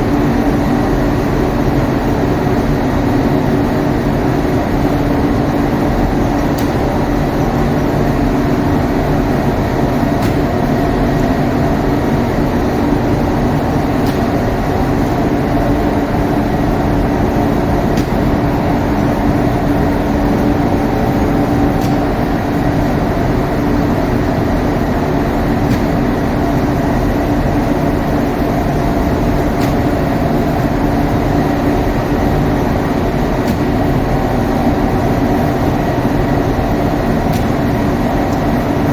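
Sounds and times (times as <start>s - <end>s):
machine rumbling with low hum: 0.0s - 38.9s.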